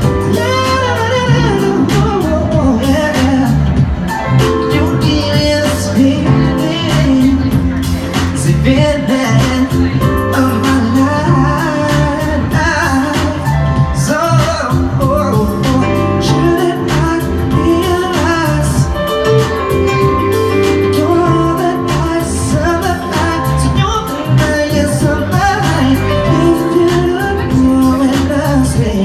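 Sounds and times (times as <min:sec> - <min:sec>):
digital piano: 0:00.0 - 0:29.0
man singing into a microphone: 0:00.0 - 0:29.0
steady bass line: 0:00.0 - 0:29.0.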